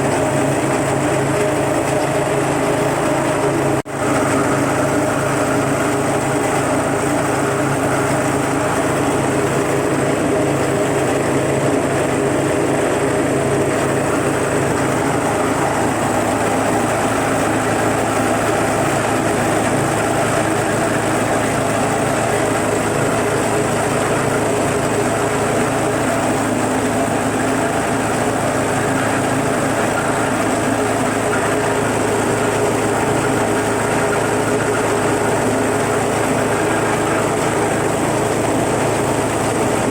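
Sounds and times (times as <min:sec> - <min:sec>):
salt grinder machine drone: 0:00.0 - 0:39.9.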